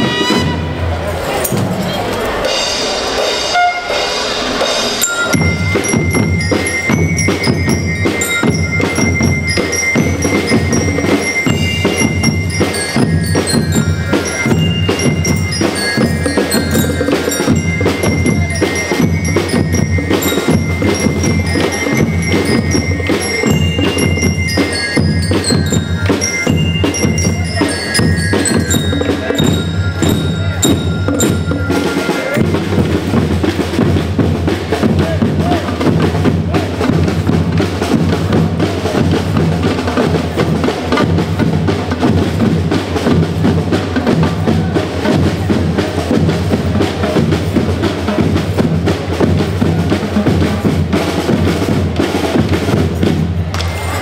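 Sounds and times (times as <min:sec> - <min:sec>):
snare and bass drums: 0:01.6 - 0:54.0
bell lyres playing melody: 0:02.5 - 0:35.0, 0:35.7 - 0:54.0.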